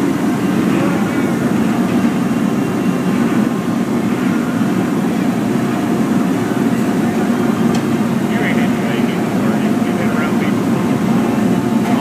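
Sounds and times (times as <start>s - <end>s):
furnaces and blowers roaring: 0.0s - 12.0s.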